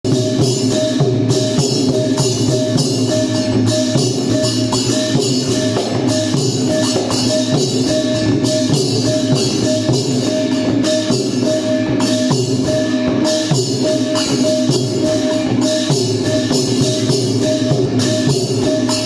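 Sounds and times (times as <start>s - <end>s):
cymbals clashing: 0.0s - 19.0s
long drums beating: 0.0s - 19.0s
ringing metallic tone: 0.1s - 19.0s.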